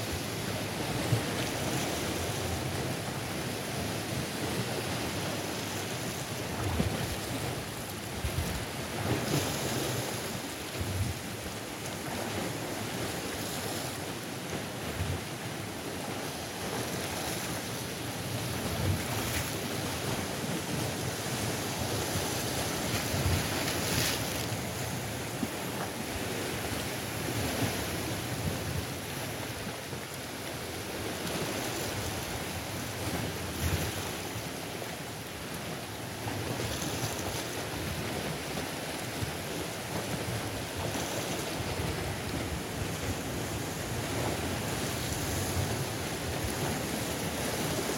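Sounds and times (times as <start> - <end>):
waves breaking against boulders: 0.0 - 47.9.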